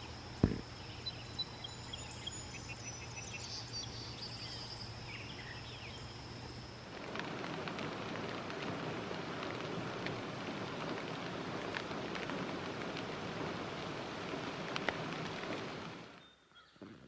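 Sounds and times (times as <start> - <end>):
steady rain falling: 0.0 - 16.2.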